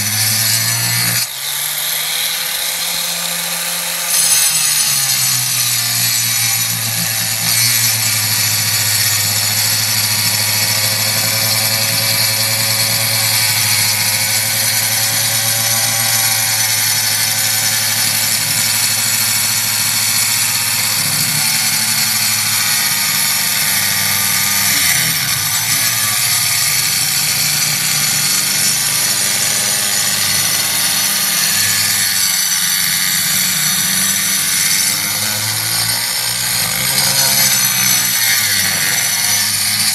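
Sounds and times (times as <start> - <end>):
angle grinder whine: 0.0 - 39.9
gritty grinding of cut: 0.0 - 39.9.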